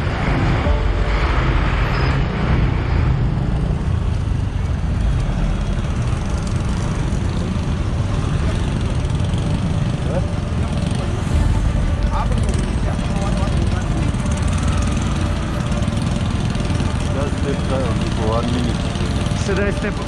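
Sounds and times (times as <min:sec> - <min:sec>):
motorcycle engine and road rumble: 0:00.0 - 0:20.0.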